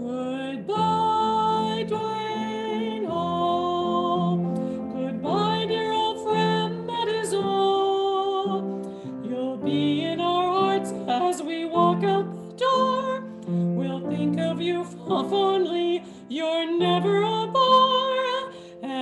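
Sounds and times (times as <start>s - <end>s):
piano chords: 0.0s - 19.0s
woman singing with vibrato: 0.0s - 19.0s.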